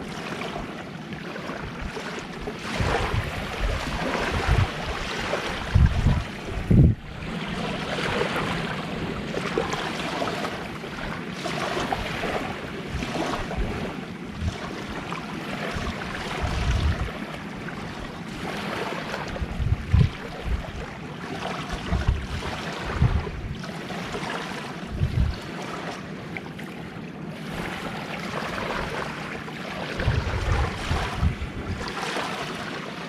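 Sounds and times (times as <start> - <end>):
sea waves washing ashore: 0.0 - 33.0
wind buffeting microphone: 1.5 - 24.0, 24.8 - 25.6, 27.3 - 32.4.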